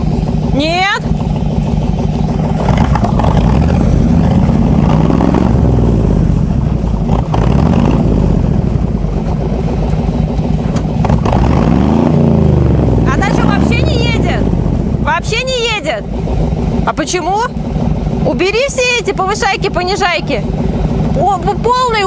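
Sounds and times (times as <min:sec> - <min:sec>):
armoured car engine revving: 0:00.0 - 0:22.0.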